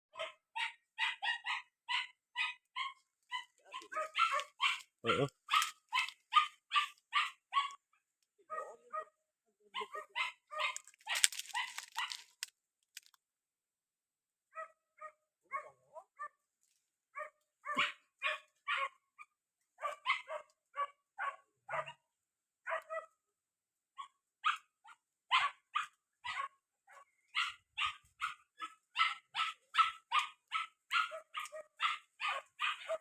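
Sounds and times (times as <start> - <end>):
dog barking: 0.1 - 7.8, 8.4 - 9.2, 9.8 - 12.3, 14.5 - 16.4, 17.2 - 22.1, 22.7 - 23.2, 24.0 - 33.0.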